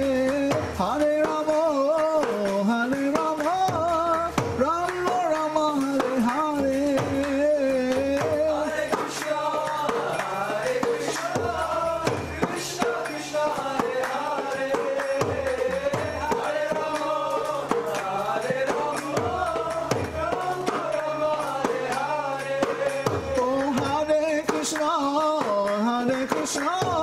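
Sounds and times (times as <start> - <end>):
man singing a chant melody: 0.0 - 27.0.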